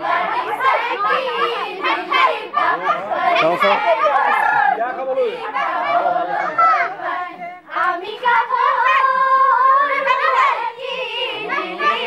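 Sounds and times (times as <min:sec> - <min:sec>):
women and girls singing: 0:00.0 - 0:12.0.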